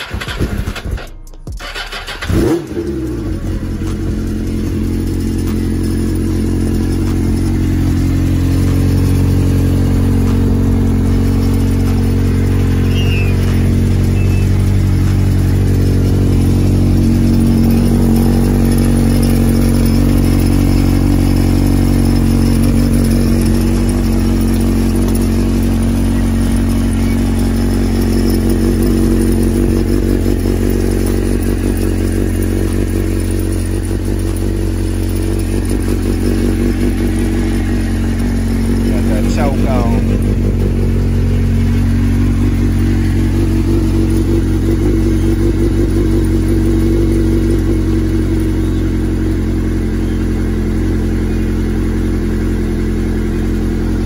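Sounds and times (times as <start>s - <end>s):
motorcycle engine starting and idling: 0.0s - 54.0s.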